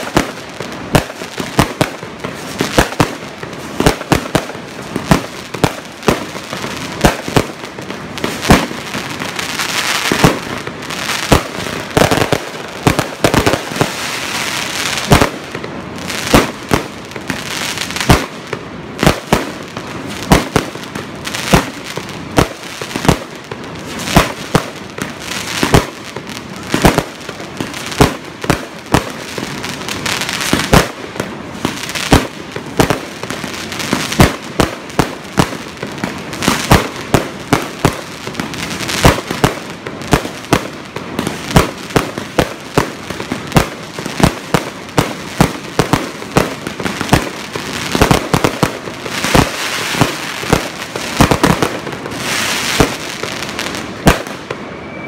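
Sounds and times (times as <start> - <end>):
crackling hiss: 0.0 - 55.0.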